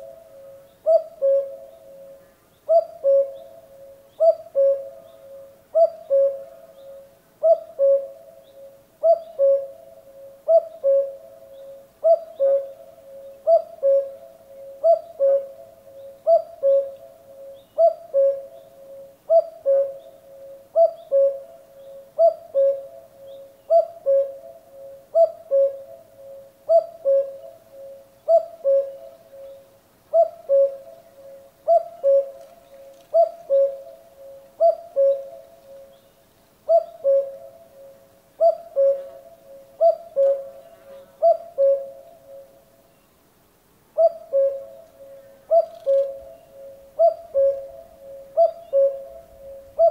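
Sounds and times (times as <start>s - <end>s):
cuckoo calling: 0.0s - 42.7s, 44.0s - 49.9s.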